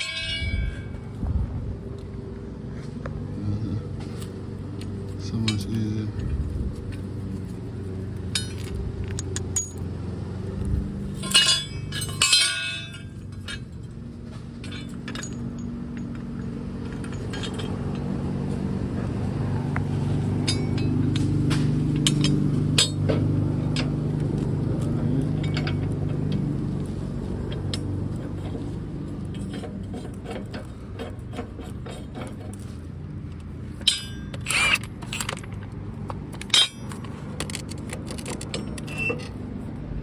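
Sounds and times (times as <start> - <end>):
metal tools clinking: 0.0 - 1.2, 4.0 - 9.9, 10.6 - 14.0, 14.6 - 39.5
low engine hum: 0.0 - 40.0.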